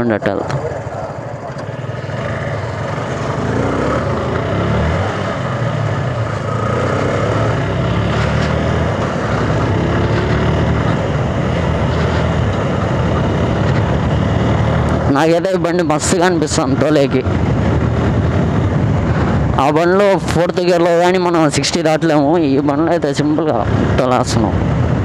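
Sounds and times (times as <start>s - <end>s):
motorcycle engine accelerating: 0.0s - 25.0s
wind rushing over microphone: 1.9s - 25.0s.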